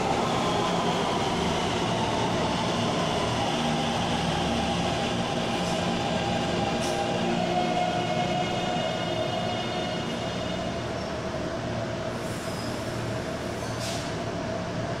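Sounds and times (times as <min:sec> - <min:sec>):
metro train braking: 0:00.0 - 0:14.5.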